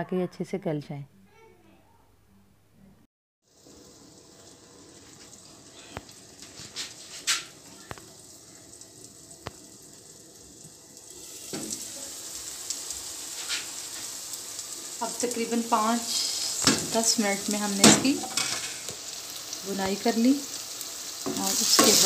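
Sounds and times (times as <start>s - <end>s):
food sizzling in a pan: 3.4s - 22.0s.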